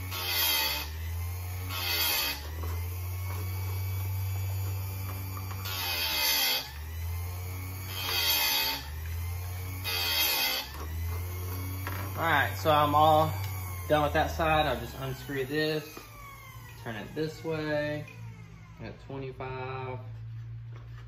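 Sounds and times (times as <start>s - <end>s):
grinding wheel rasping on chain: 0.0s - 18.9s
sharpener motor hum: 0.0s - 19.0s.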